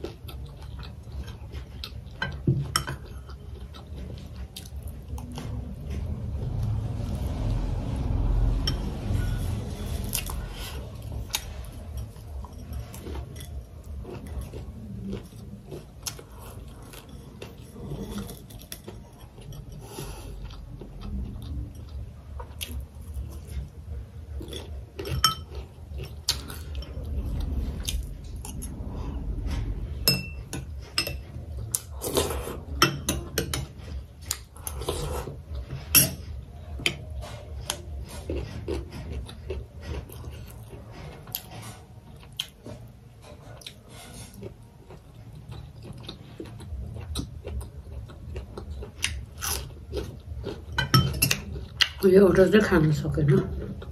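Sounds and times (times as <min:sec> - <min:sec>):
chewing: 0:00.0 - 0:07.8, 0:08.8 - 0:29.9, 0:30.5 - 0:52.1.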